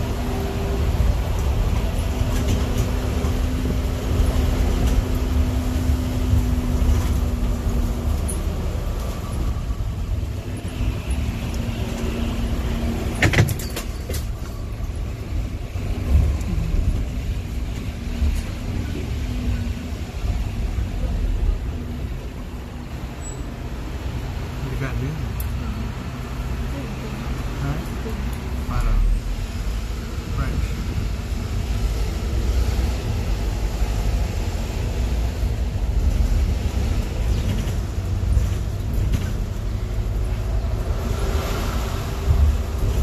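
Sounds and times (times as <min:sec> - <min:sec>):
bus engine rumble: 0:00.0 - 0:43.0.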